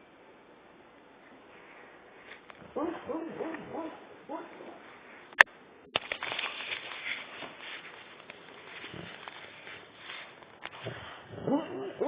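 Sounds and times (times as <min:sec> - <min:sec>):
noise: 0:00.0 - 0:12.0.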